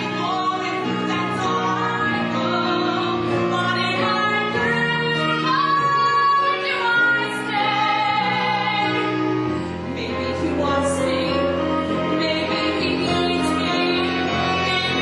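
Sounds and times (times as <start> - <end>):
woman singing operatically: 0.0 - 9.3, 9.9 - 15.0
instrumental accompaniment: 0.0 - 15.0.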